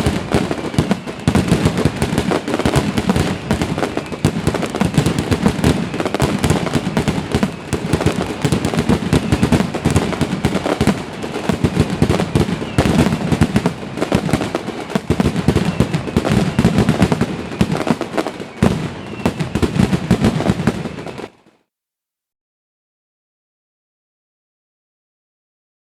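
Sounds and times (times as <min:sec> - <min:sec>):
fireworks bangs and crackles: 0:00.0 - 0:21.5.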